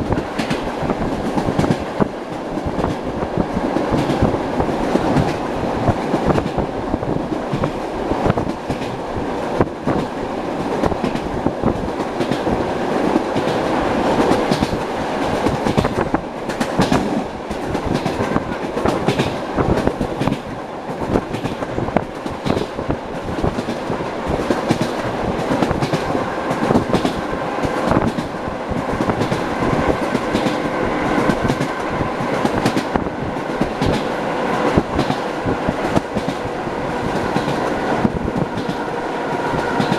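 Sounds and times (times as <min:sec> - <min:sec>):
train wheels clattering over rail joints: 0:00.0 - 0:03.1, 0:03.7 - 0:06.7, 0:07.3 - 0:39.9.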